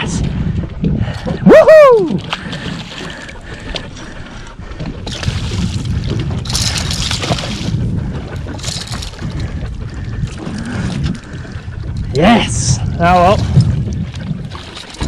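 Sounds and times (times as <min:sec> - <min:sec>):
water splashing around boat: 0:00.0 - 0:15.0
wind rumbling on microphone: 0:00.0 - 0:15.0.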